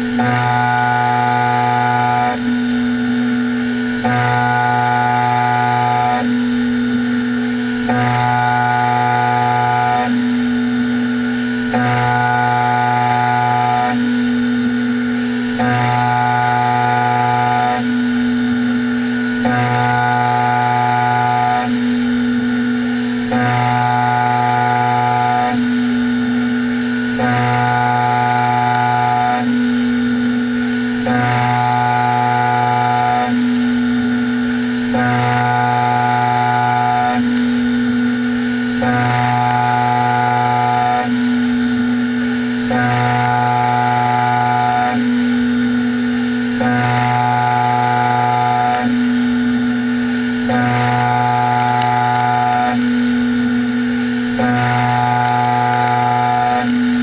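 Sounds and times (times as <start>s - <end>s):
end mill cutting metal hum: 0.0s - 57.0s.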